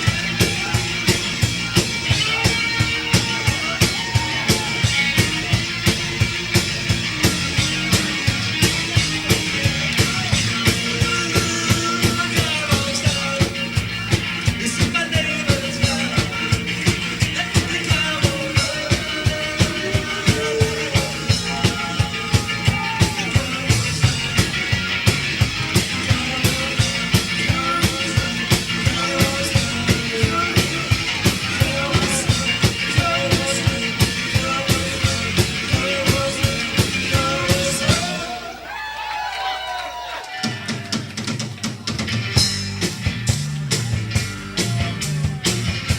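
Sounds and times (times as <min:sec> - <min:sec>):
drum kit beat: 0:00.0 - 0:38.7, 0:40.4 - 0:45.9
live rock band playing: 0:00.0 - 0:38.7, 0:40.4 - 0:45.9.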